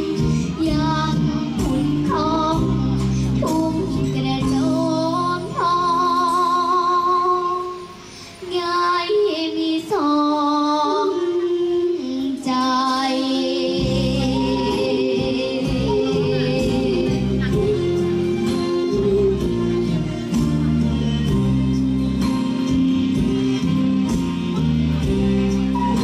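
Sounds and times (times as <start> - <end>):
girl singing into a microphone: 0.0 - 21.4
backing track music: 0.0 - 26.0.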